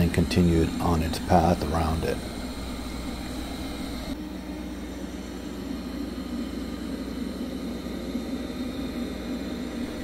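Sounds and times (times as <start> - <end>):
robot vacuum humming: 0.0 - 10.0.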